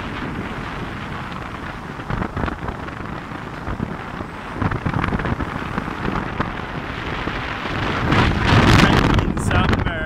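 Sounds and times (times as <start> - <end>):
truck road noise: 0.0 - 9.8
wind on microphone: 0.0 - 10.0.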